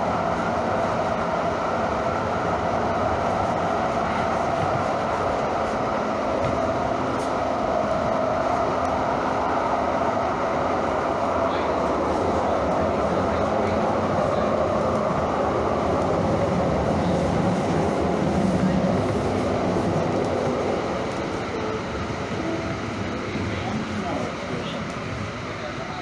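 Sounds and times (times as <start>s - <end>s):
light-rail car running on track: 0.0s - 26.0s.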